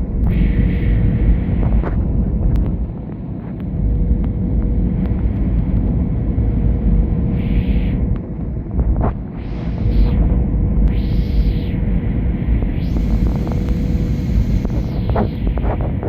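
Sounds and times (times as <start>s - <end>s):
deep airliner rumble: 0.0s - 16.0s
steady hum: 0.0s - 16.0s.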